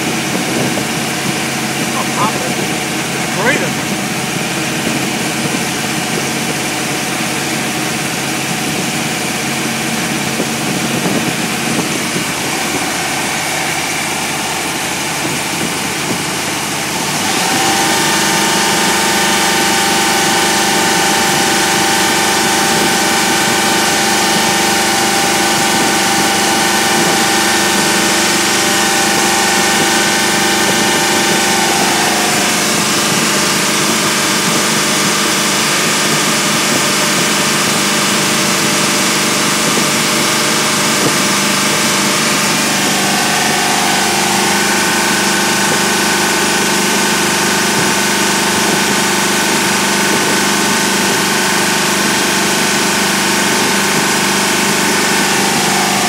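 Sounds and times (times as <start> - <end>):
engine running on dyno: 0.0 - 56.0.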